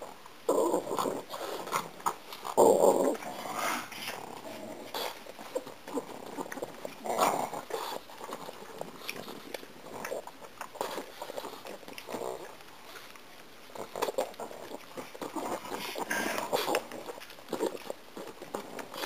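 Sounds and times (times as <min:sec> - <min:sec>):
dog chewing with wet smacking: 0:00.8 - 0:19.0.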